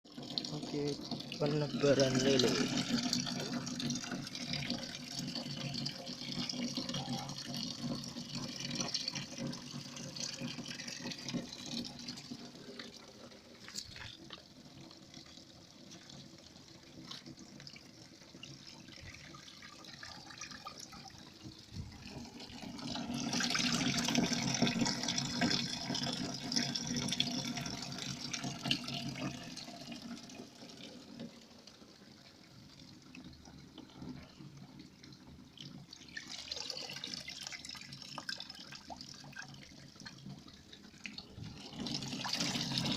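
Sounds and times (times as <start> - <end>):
water pouring into a tank: 0.0 - 42.9.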